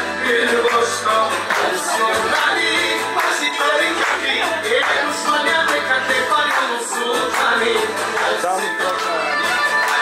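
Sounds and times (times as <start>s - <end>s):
song with many instruments: 0.0s - 10.0s.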